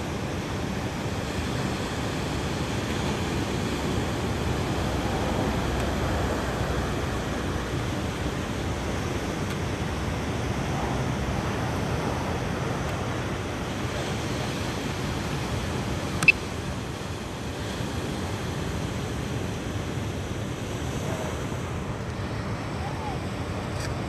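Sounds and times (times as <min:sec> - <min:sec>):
ocean surf: 0:00.0 - 0:24.0
wind: 0:00.0 - 0:24.0.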